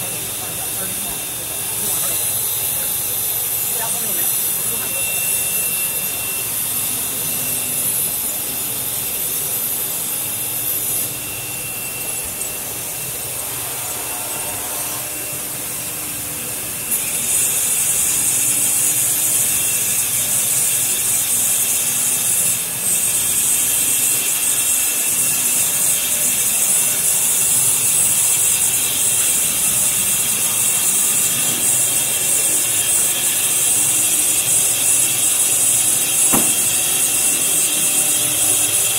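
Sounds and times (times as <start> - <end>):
saw blade cutting metal: 0.0 - 38.9.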